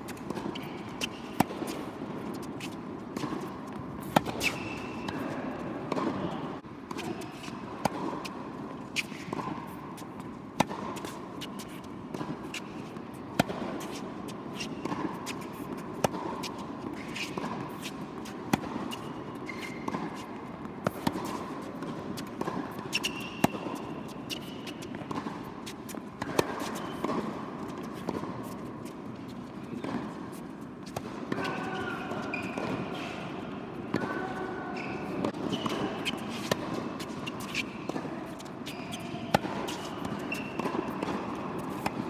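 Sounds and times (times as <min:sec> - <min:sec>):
racket hitting tennis ball: 0:00.0 - 0:42.0
shoes squeaking on court: 0:00.1 - 0:42.0.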